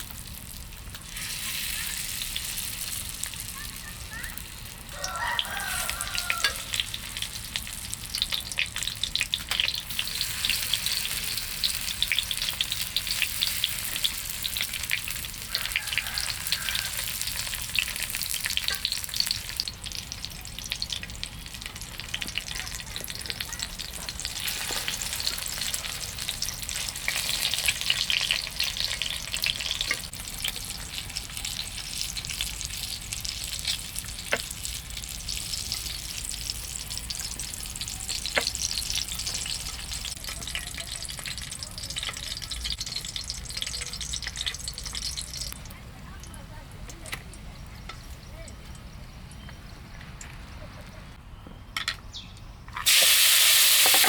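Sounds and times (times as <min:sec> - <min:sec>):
food frying in hot oil: 0:00.0 - 0:48.6, 0:52.8 - 0:54.0.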